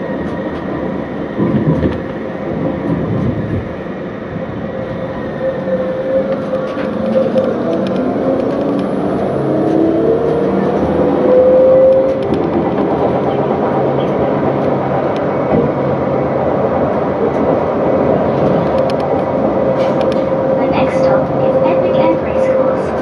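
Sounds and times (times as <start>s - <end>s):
rumble of wheels on rail: 0.0s - 23.0s.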